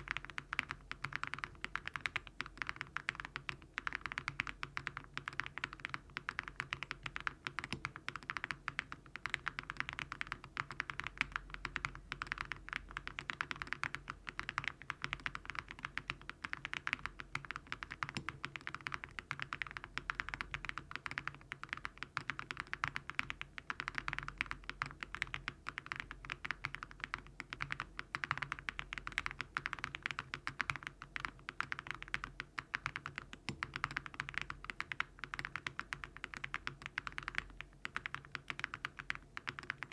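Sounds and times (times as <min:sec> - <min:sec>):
mechanical keyboard typing clatter: 0:00.0 - 0:39.9.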